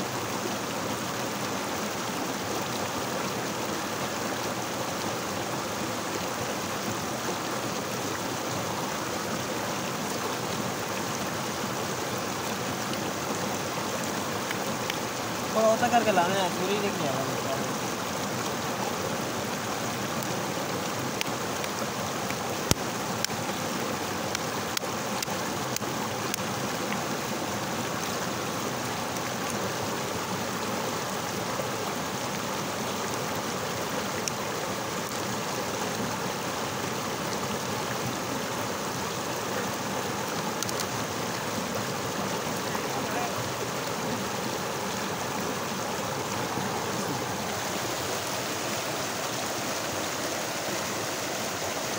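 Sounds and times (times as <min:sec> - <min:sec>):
stream rushing over boulders: 0:00.0 - 0:51.9.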